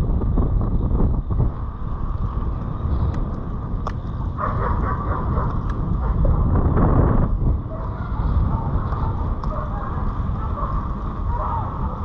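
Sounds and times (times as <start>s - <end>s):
bike clicks: 0.0s - 12.0s
bike tyres rumbling over gravel: 0.0s - 12.0s
wind buffeting microphone: 0.0s - 12.0s.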